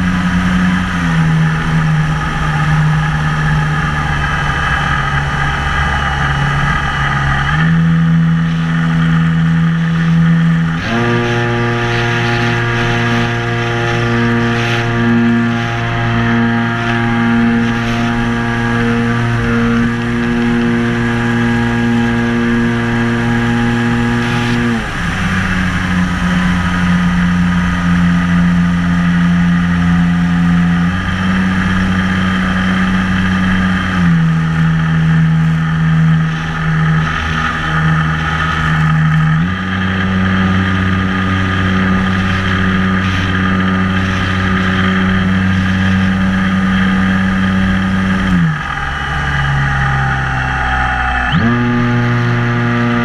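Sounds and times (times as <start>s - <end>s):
electric motor and propeller whine: 0.0s - 53.0s.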